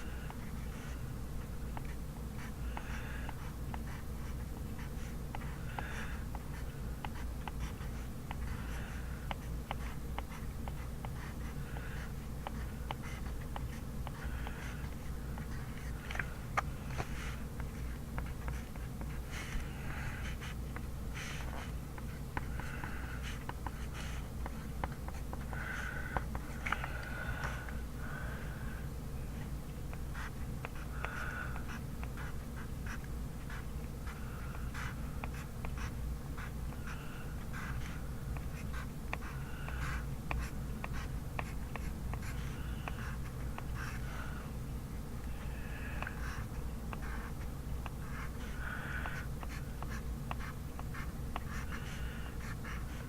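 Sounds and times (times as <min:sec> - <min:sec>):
pen scratching on paper: 0:00.0 - 0:27.8, 0:29.4 - 0:44.2, 0:45.3 - 0:53.0.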